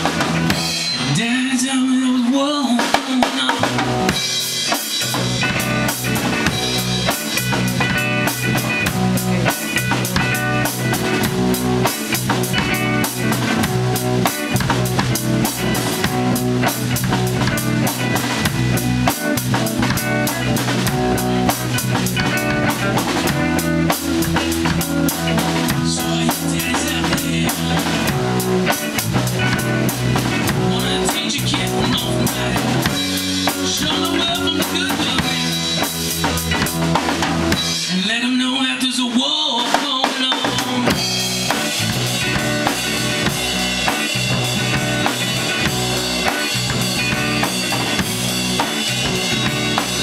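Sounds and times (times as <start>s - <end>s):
drum kit beat: 0.0s - 1.6s, 2.2s - 38.2s, 39.1s - 50.0s
electric bass: 0.0s - 2.1s, 3.6s - 37.9s, 40.4s - 50.0s
electric guitar: 0.0s - 50.0s
rock band playing live: 0.0s - 50.0s.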